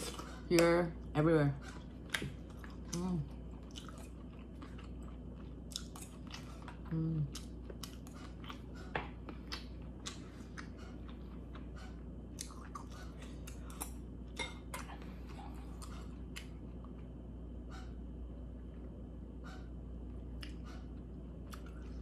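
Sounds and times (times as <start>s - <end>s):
person chewing and eating: 0.0s - 22.0s.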